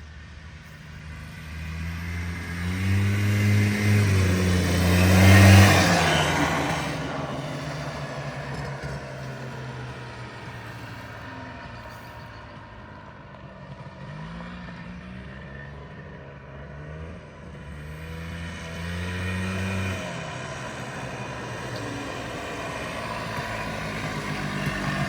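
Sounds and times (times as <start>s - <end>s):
atv two-stroke engine running: 0.6s - 15.8s, 16.4s - 25.0s.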